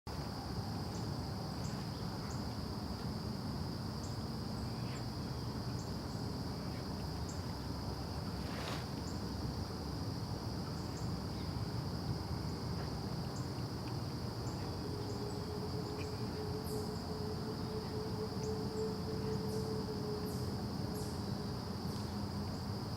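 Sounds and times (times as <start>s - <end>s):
low steady hum: 0.1s - 22.9s
insects trilling: 0.2s - 22.9s.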